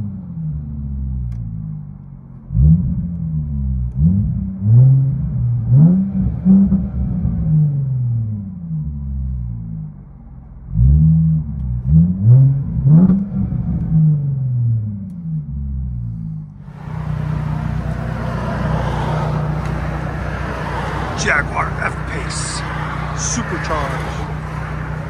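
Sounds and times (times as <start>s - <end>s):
car engine idling: 0.0s - 25.0s
car engine revving: 0.0s - 25.0s.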